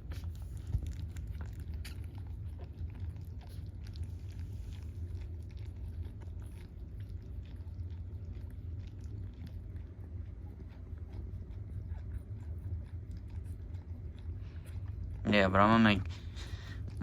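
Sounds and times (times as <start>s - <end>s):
puppies suckling clicks: 0.0s - 17.0s.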